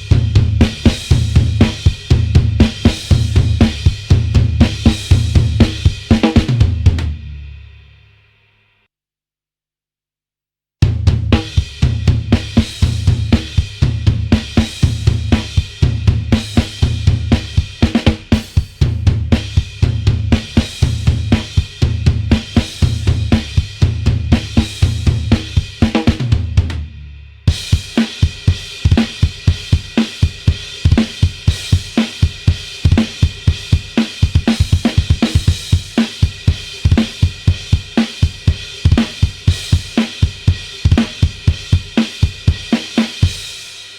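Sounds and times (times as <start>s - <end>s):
rock drum groove: 0.0s - 7.8s, 10.8s - 43.9s.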